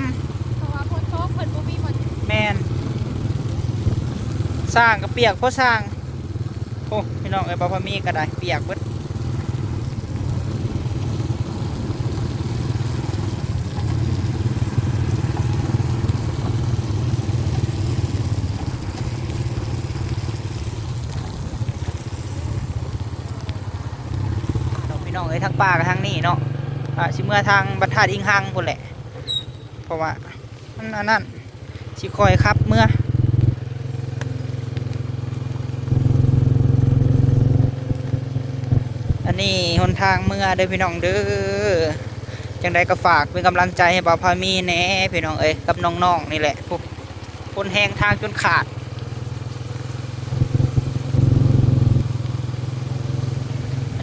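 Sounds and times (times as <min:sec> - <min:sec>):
road and wind noise: 0:00.0 - 0:54.0
vehicle engine droning: 0:00.0 - 0:54.0.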